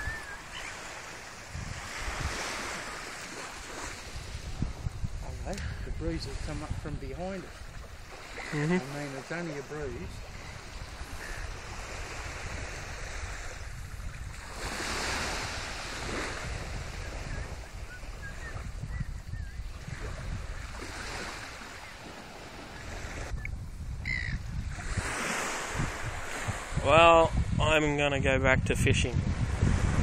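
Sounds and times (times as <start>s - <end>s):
small waves washing onto beach: 0.0s - 30.0s
wind on microphone: 0.0s - 30.0s.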